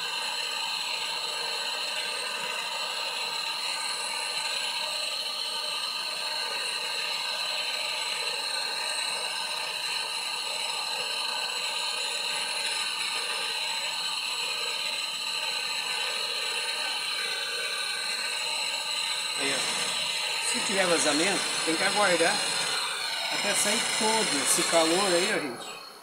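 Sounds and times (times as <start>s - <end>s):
gas torch flame hissing: 0.0s - 26.0s.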